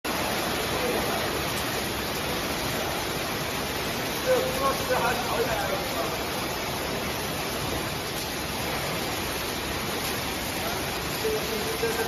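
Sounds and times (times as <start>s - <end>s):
steady hiss: 0.2s - 12.0s.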